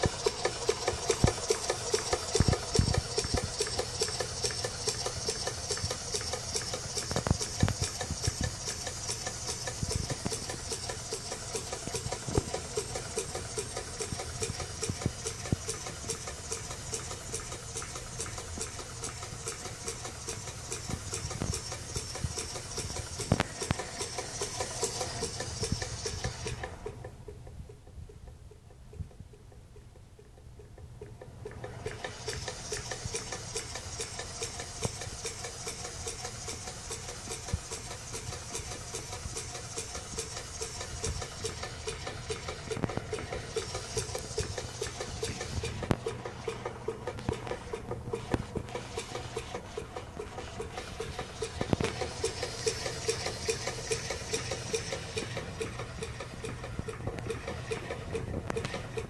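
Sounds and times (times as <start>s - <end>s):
steam hiss: 0.0s - 26.8s, 31.8s - 56.6s
miniature steam engine clattering: 0.0s - 59.0s.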